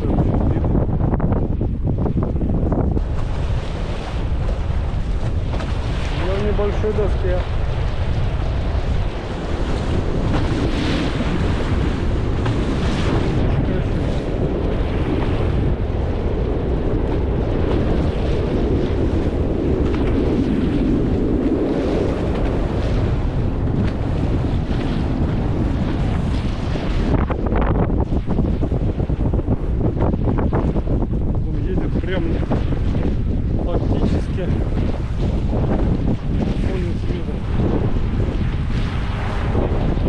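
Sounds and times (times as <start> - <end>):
sea water rushing around boat: 0.0 - 40.0
wind buffeting microphone: 0.0 - 40.0.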